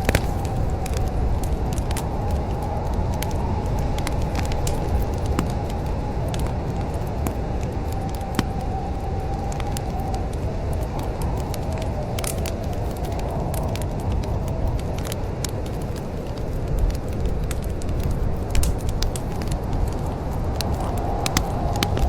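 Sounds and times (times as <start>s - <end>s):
low fire rumble: 0.0s - 22.0s
wood fire crackling: 0.0s - 22.0s.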